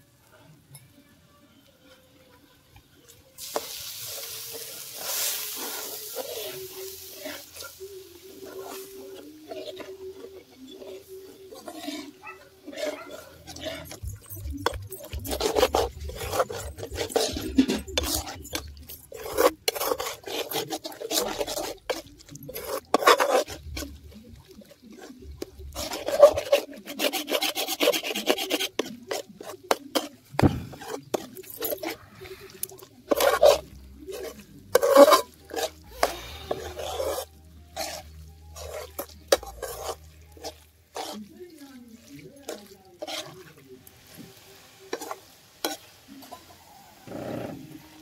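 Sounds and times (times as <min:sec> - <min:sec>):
metal ladle scraping pan: 0:03.4 - 0:44.1, 0:44.9 - 0:47.8.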